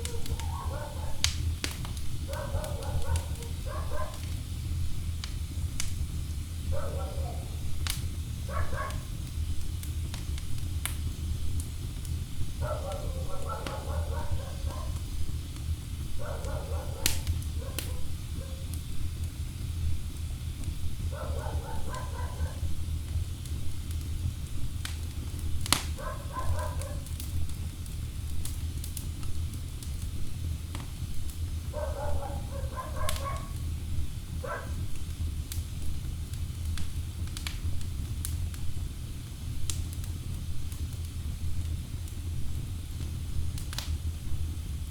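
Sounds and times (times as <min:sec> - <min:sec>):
logs crackling and popping: 0:00.0 - 0:44.9
wood fire rumbling: 0:00.0 - 0:44.9.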